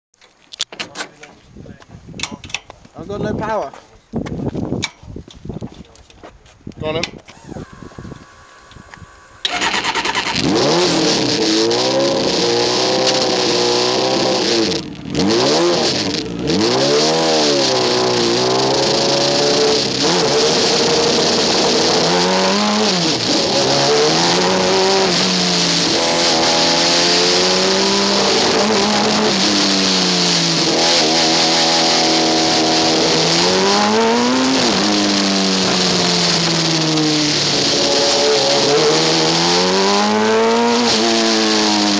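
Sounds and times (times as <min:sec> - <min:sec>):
race car engine revving: 0:07.3 - 0:41.9.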